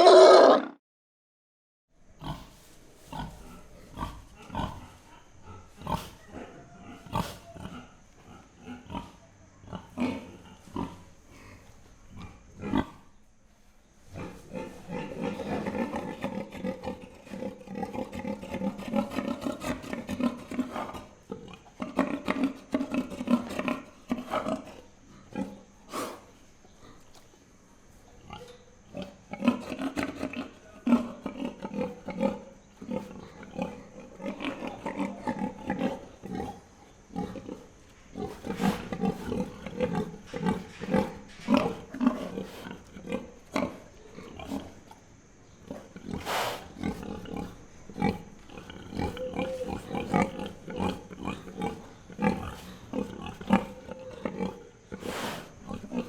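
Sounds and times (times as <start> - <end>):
pig grunting: 0.0 - 0.8, 2.2 - 13.1, 14.0 - 27.2, 28.2 - 45.0, 45.6 - 56.0.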